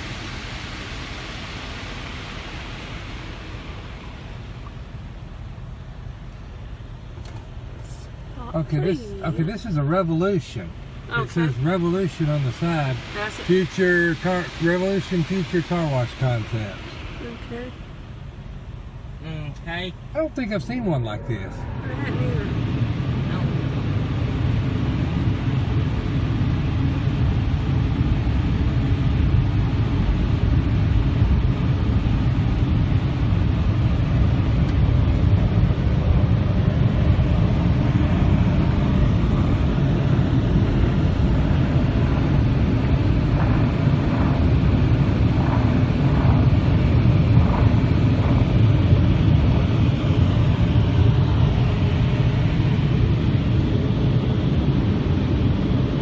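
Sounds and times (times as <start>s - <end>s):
car wash rumble inside car: 0.0s - 56.0s.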